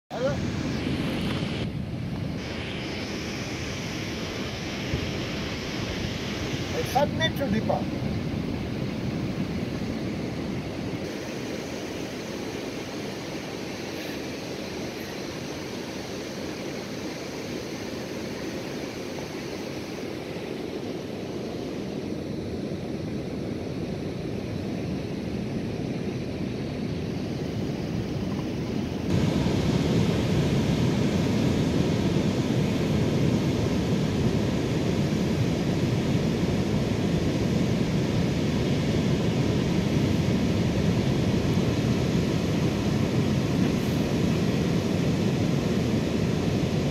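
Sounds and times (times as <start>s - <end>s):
wind: 0.0s - 46.9s.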